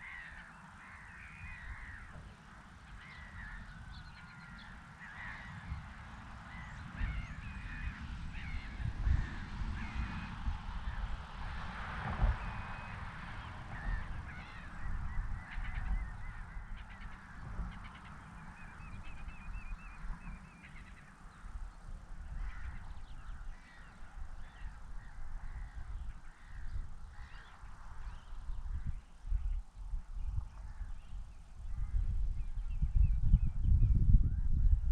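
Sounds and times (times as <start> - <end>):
birds calling and singing: 0.0 - 11.1, 12.3 - 34.8.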